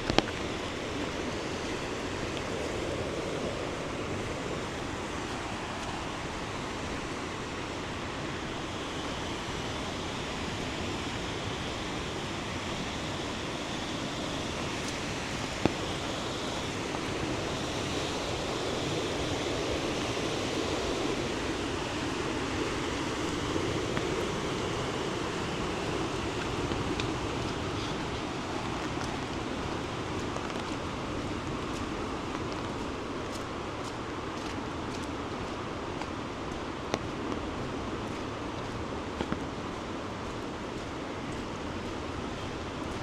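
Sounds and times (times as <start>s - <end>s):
river water rushing: 0.0s - 43.0s.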